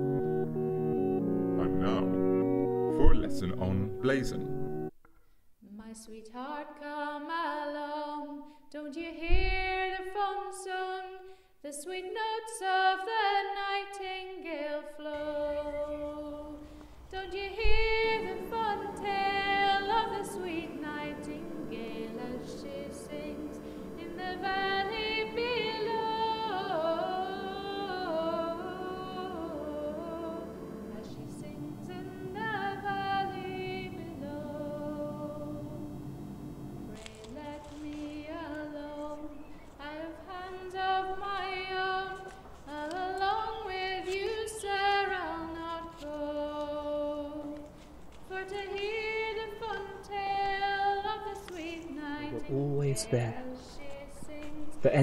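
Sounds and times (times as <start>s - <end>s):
women singing unaccompanied: 5.6s - 54.8s.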